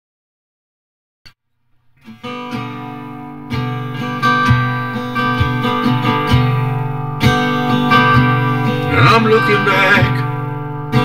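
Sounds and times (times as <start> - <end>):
acoustic guitar strumming: 1.6 - 11.0.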